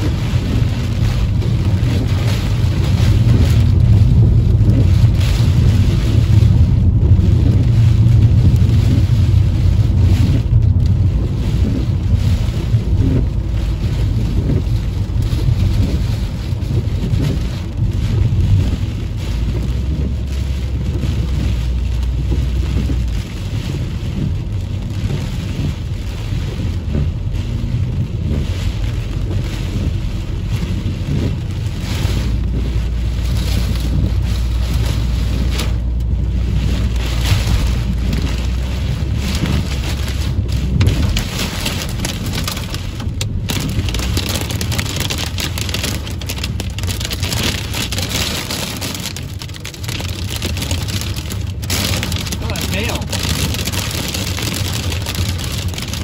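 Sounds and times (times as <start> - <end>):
heavy rain on car roof: 0.0 - 56.0
low rumble: 0.0 - 56.0.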